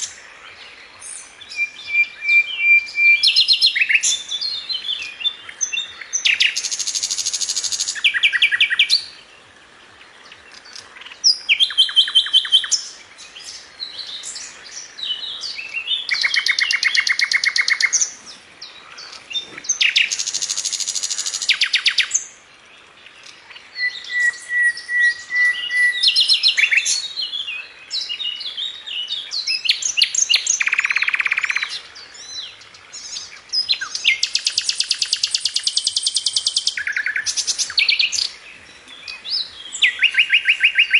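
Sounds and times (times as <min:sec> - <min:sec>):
bird chirps: 0:00.0 - 0:09.3, 0:10.2 - 0:22.4, 0:23.0 - 0:40.9.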